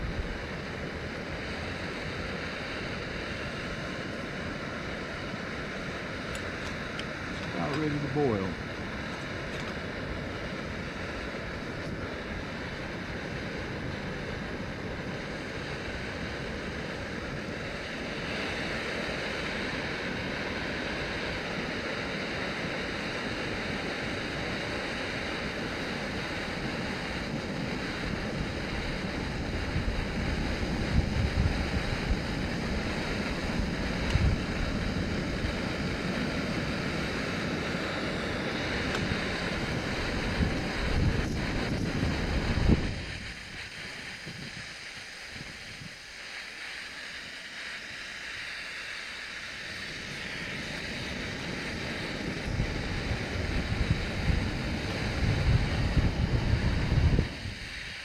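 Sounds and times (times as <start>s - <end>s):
wind buffeting microphone: 0.0s - 46.0s, 49.6s - 58.0s
camping stove roaring hiss: 0.0s - 58.0s.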